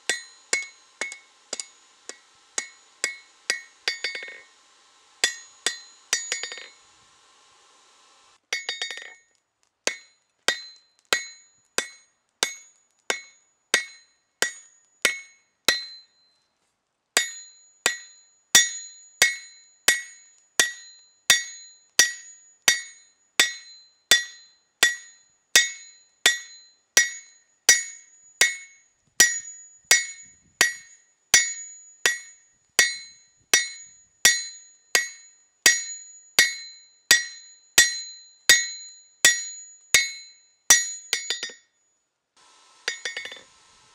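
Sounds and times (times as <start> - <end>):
hammer striking metal on anvil: 0.0 - 4.6, 5.2 - 6.8, 8.5 - 9.2, 9.9 - 16.1, 17.2 - 41.7, 42.9 - 43.5.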